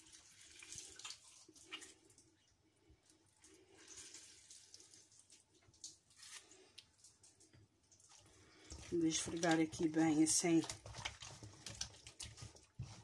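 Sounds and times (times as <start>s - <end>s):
small drips: 0.0s - 13.0s.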